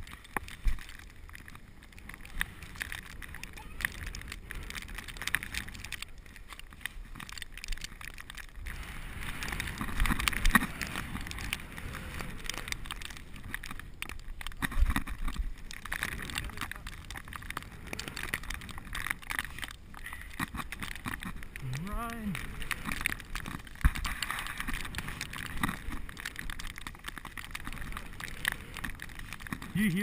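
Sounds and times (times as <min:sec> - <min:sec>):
bicycle riding through snow: 0:00.0 - 0:30.0.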